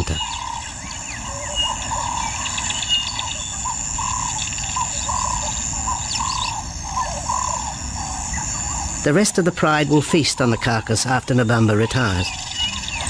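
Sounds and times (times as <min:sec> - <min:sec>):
bird chirps: 0:00.0 - 0:13.0
insects droning: 0:00.0 - 0:13.0.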